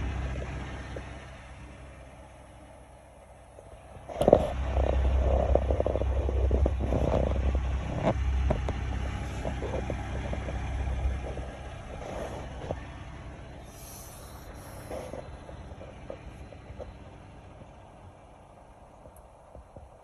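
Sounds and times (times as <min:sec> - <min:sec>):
vehicle rumble from inside: 0:00.0 - 0:20.0.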